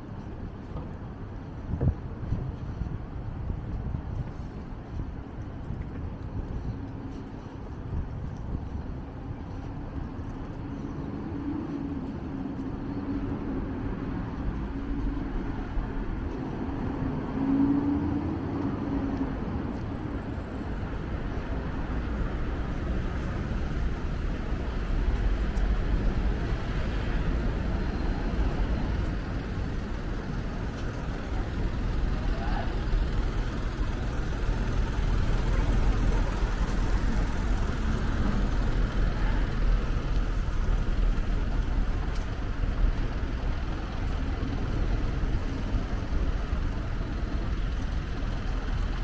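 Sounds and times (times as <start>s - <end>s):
engine humming: 0.0s - 49.0s
low traffic rumble: 0.0s - 49.0s
motor vehicles passing: 0.0s - 49.0s.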